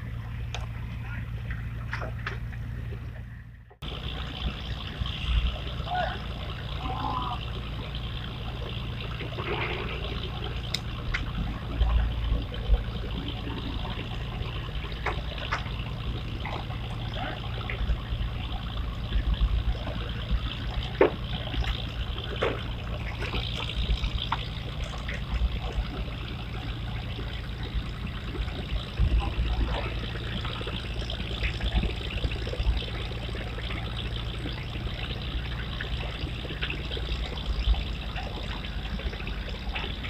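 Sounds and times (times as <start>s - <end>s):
low rumble: 0.0s - 40.0s
river water lapping: 0.0s - 40.0s
small clicks and splashes: 0.4s - 40.0s.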